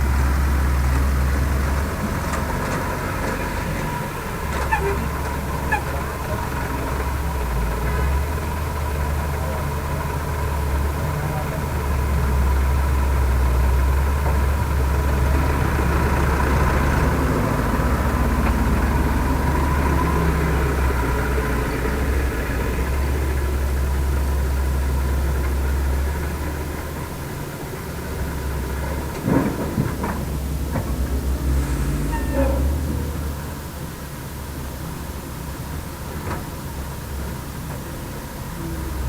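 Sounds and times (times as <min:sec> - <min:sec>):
heavy diesel engine rumbling: 0:00.0 - 0:39.0.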